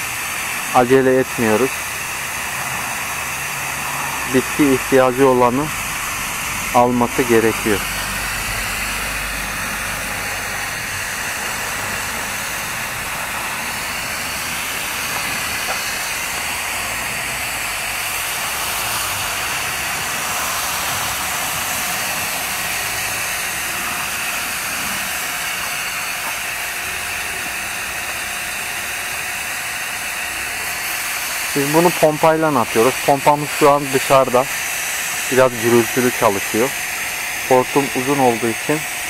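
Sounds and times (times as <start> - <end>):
hose nozzle spray hiss: 0.0 - 39.0.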